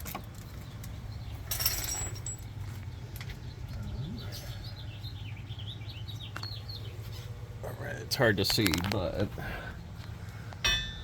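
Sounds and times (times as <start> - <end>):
birds chirping: 0.0 - 10.6
steady low hum: 0.0 - 11.0.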